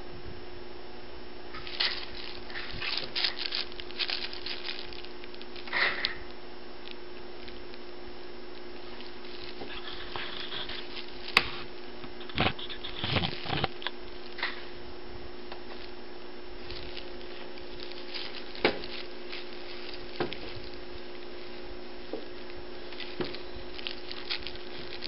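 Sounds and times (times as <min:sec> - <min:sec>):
electrical hum: 0:00.0 - 0:25.0
paper rustling and crinkling: 0:01.5 - 0:07.8, 0:08.6 - 0:14.7, 0:16.6 - 0:25.0.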